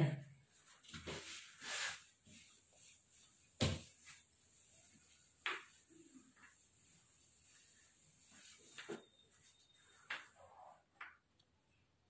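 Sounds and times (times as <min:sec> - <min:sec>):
duster wiping whiteboard: 0:00.6 - 0:10.9.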